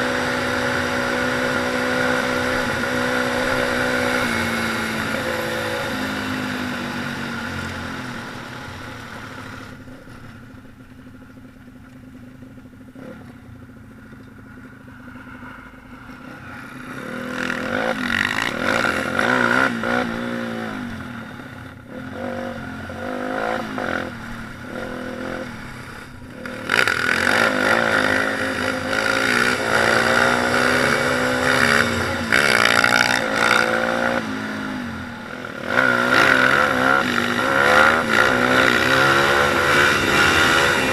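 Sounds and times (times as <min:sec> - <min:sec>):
pit bike engines revving: 0:00.0 - 0:10.8, 0:12.0 - 0:40.9.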